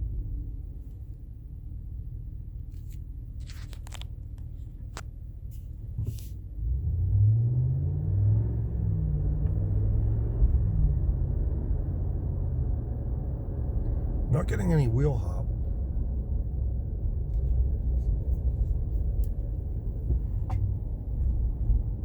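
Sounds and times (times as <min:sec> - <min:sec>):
low rumble of truck cabin: 0:00.0 - 0:22.0.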